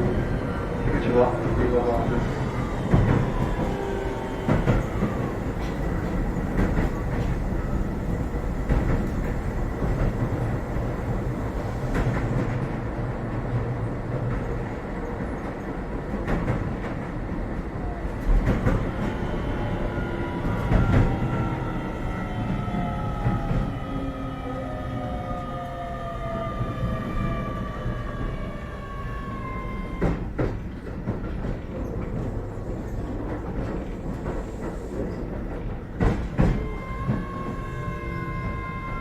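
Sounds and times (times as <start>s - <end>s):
train wheel and track rumble: 0.0s - 39.0s.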